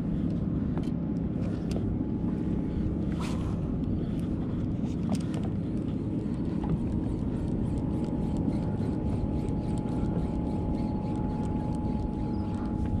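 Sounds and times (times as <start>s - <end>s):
boat motor rumble: 0.0s - 13.0s
thin steady whine: 0.0s - 13.0s
water and wind noise: 0.1s - 13.0s.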